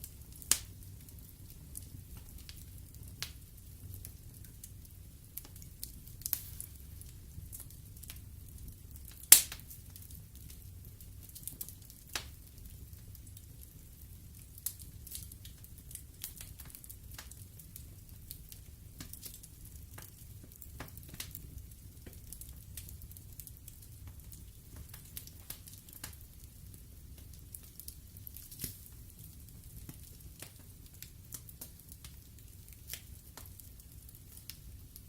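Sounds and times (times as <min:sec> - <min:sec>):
low rumble of flames: 0:00.0 - 0:35.0
wood fire crackling and popping: 0:00.0 - 0:35.0.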